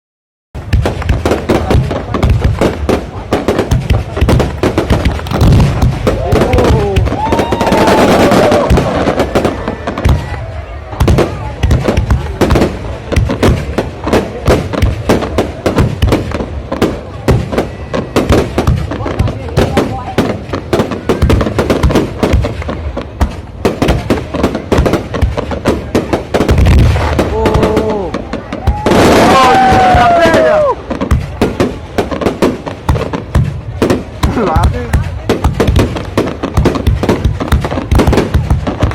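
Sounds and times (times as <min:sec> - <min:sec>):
fireworks bangs and crackles: 0:00.6 - 0:38.9.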